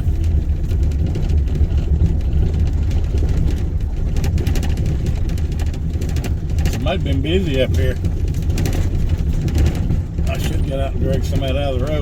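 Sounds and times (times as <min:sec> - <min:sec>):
engine and tyres rumbling: 0:00.0 - 0:12.0
knocks and rattles from bumps: 0:00.0 - 0:12.0.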